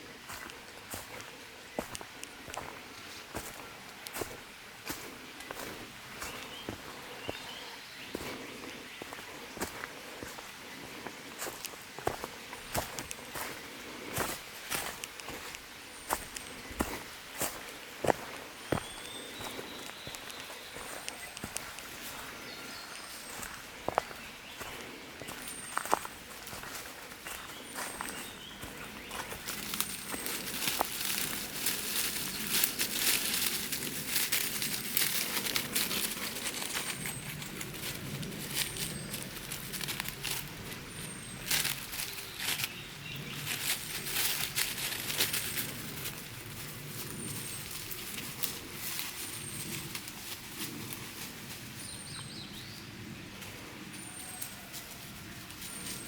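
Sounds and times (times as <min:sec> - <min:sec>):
footsteps on leaves: 0:00.0 - 0:52.7.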